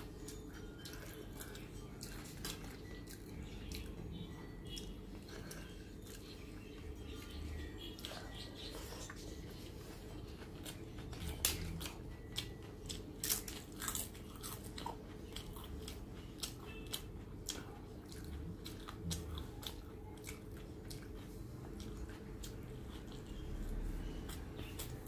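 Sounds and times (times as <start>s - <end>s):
chewing and crunching crisp wafer: 0.0s - 25.0s.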